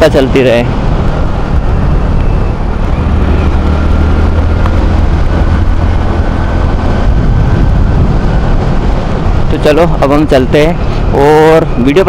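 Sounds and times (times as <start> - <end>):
motorcycle engine rumble: 0.0 - 12.0
wind noise: 0.0 - 12.0.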